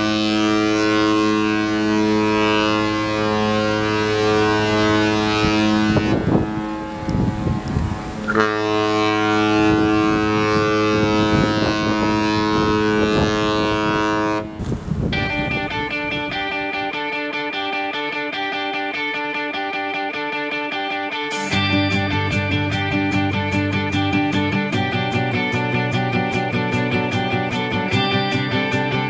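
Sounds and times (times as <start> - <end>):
ship's horn blasts: 0.0 - 16.9, 21.5 - 29.0.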